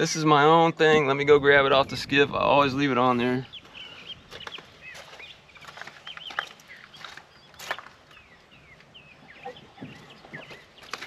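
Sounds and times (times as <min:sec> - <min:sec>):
birds chirping and whistling: 0:01.0 - 0:11.0.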